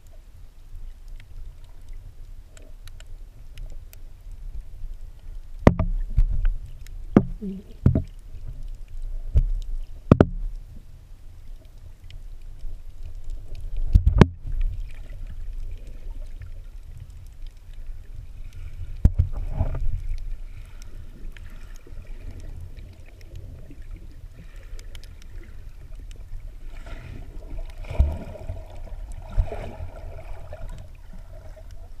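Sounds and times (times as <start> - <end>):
underwater seawater rumble: 0.0 - 32.0.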